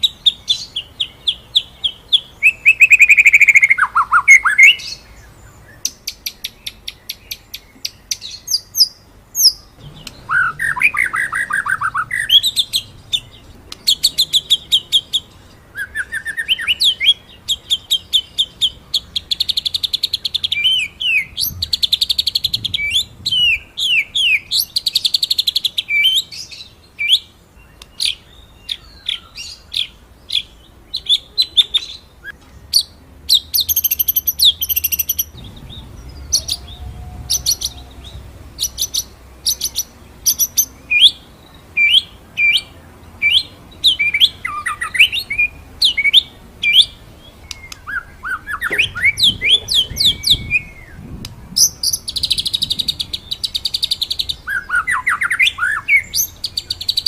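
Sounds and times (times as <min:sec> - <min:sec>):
bird singing whistled notes and trills: 0:00.0 - 0:57.0.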